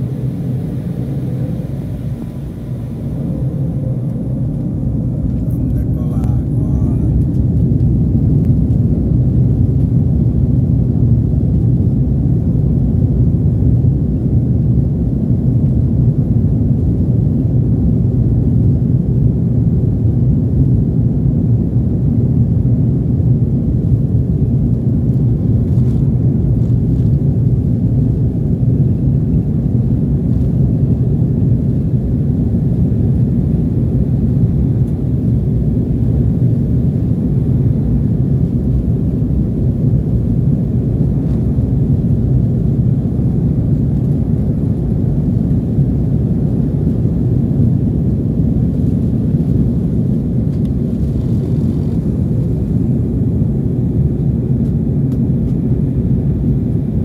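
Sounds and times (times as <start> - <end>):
jet engines and wheels rumbling: 0.0 - 57.0.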